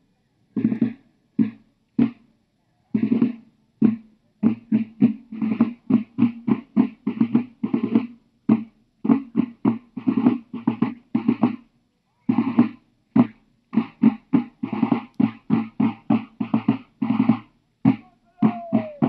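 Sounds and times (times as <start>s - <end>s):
field drums marching cadence: 0.6s - 19.0s.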